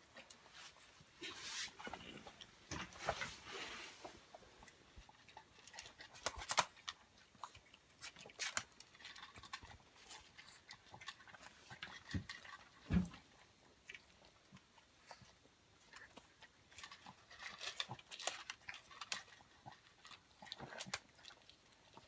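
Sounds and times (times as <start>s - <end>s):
small dogs chewing food: 1.8s - 22.0s.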